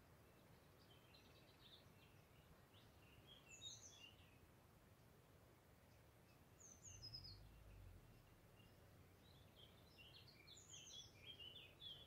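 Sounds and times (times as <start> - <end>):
birds chirping: 0.0 - 4.5, 5.8 - 12.0.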